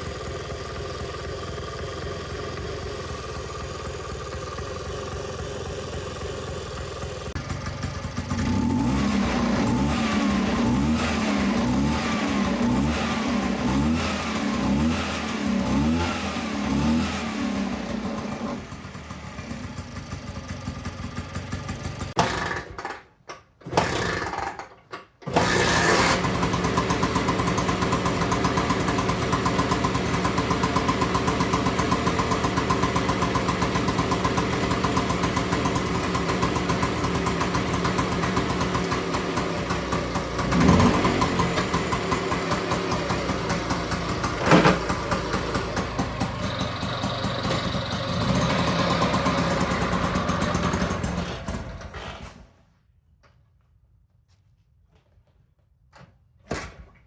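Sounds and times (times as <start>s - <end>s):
scooter engine revving and idling: 0.0s - 23.0s, 23.7s - 52.3s.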